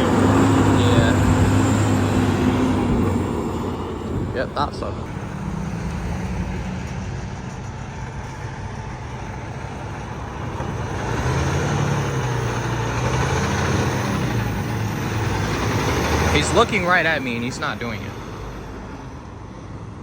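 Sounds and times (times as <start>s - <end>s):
heavy truck engine running: 0.0s - 20.0s
road traffic noise: 0.0s - 20.0s.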